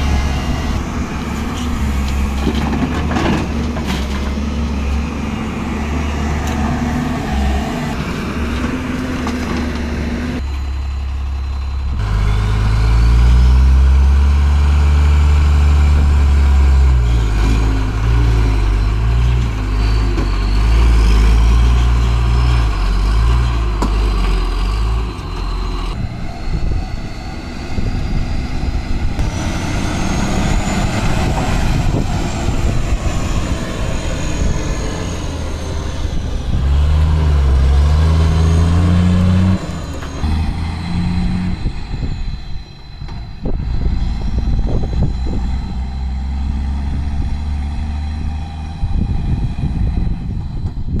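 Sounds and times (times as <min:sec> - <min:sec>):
diesel truck engine revving: 0:00.0 - 0:51.0.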